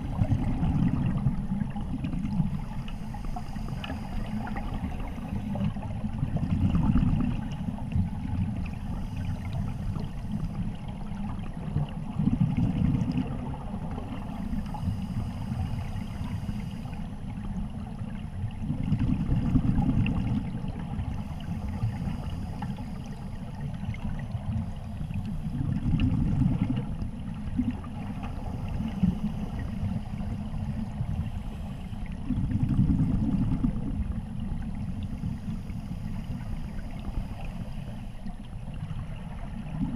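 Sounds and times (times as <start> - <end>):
underwater exhaled bubbles gurgling: 0.0 - 39.9.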